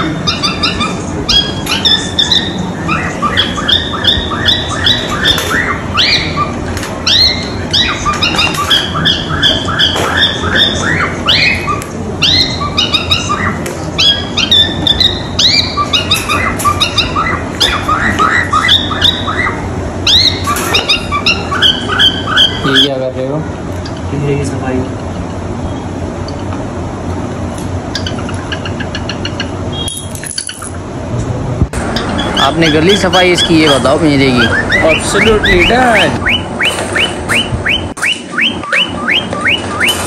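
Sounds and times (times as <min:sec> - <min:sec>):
cockatiels chirping and calling: 0:00.0 - 0:23.1, 0:27.9 - 0:30.7, 0:31.8 - 0:40.0.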